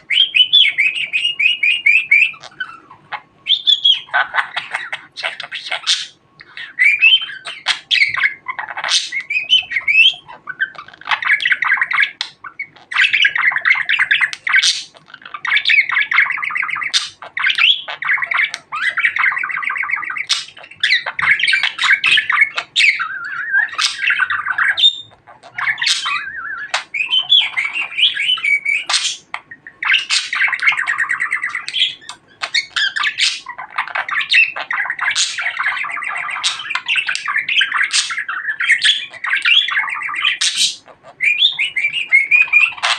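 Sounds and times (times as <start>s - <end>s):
budgerigar chattering and warbling: 0.0s - 42.9s.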